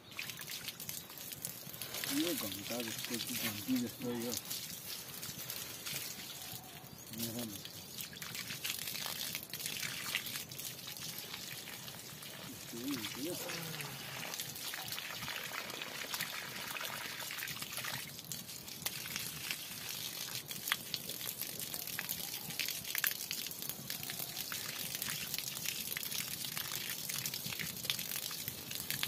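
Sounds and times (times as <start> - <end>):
water pouring from hose onto mud: 0.0 - 29.0.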